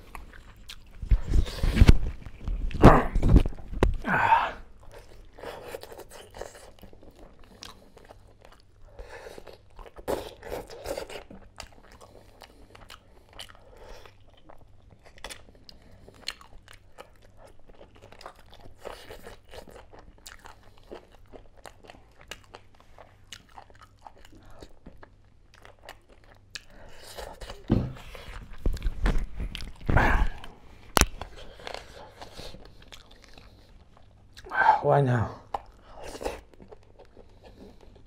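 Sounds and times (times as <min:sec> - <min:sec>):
person chewing chicken: 0:00.0 - 0:34.6, 0:35.4 - 0:38.0.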